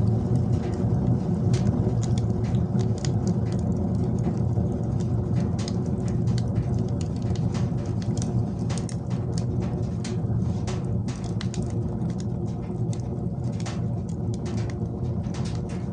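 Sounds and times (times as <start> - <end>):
fire crackling and popping: 0.0 - 15.9
wood fire rumbling: 0.0 - 15.9.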